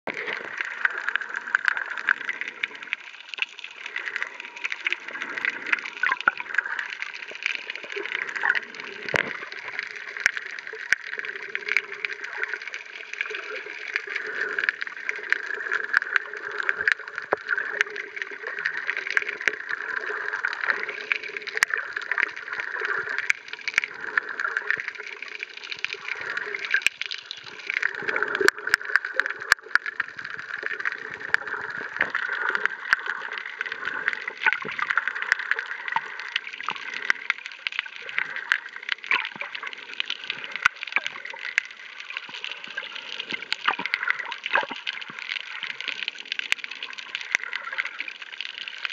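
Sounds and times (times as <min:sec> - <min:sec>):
muffled underwater sloshing: 0:00.0 - 0:48.9
sharp underwater clicks: 0:00.1 - 0:48.9.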